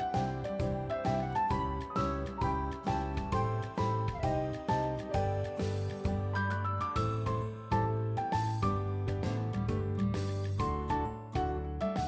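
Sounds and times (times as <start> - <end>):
light instrumental music: 0.0 - 12.0.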